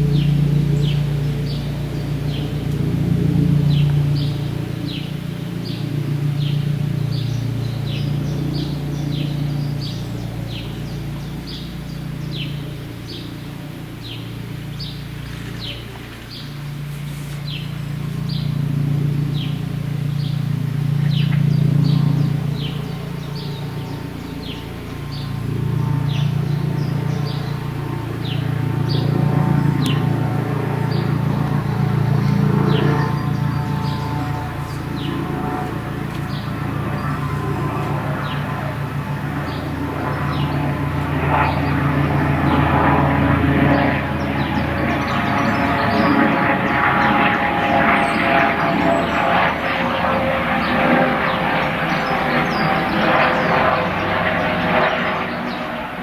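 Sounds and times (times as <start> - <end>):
helicopter running: 0.0 - 56.0.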